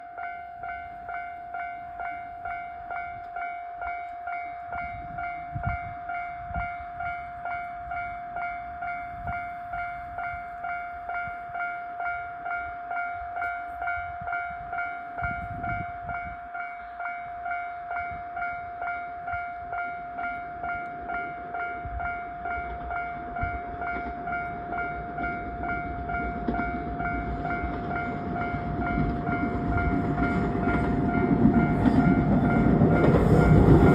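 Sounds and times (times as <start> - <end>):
level crossing warning bell: 0.0 - 33.9
train rumble: 0.0 - 33.9.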